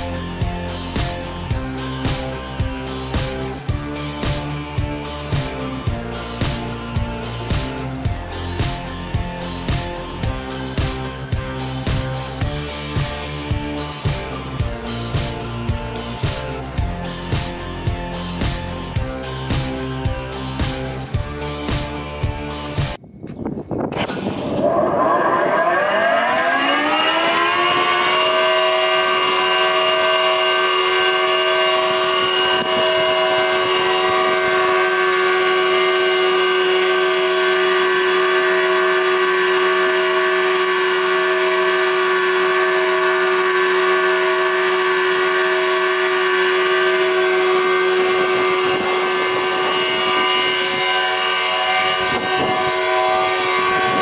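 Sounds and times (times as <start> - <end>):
thickness planer whining: 0.0 - 23.0, 24.0 - 54.0.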